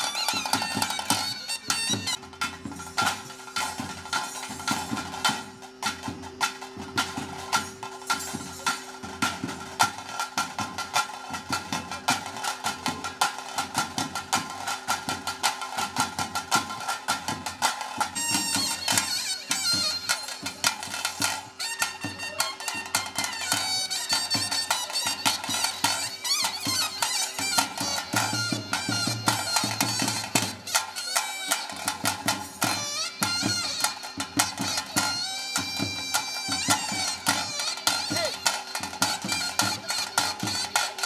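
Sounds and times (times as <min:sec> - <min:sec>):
wind instrument melody: 0:00.0 - 0:41.0.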